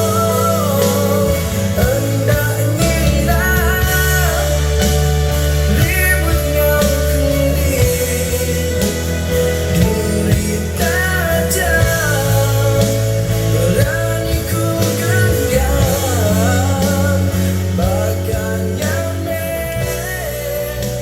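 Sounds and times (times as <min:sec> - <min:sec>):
pop song over loudspeakers: 0:00.0 - 0:21.0.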